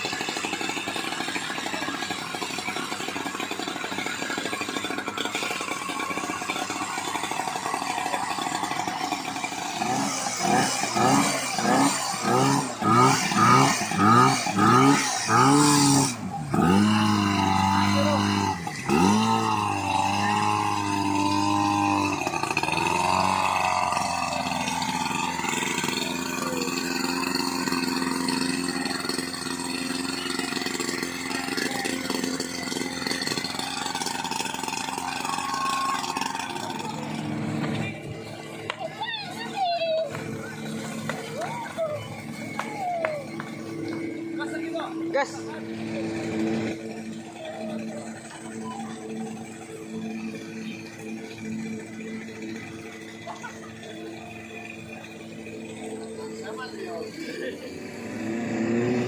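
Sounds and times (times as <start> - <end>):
pump engine running: 0.0 - 59.0.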